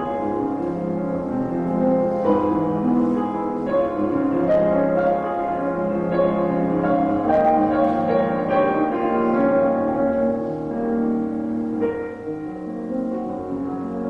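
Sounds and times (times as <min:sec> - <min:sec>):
solo piano: 0:00.0 - 0:14.0.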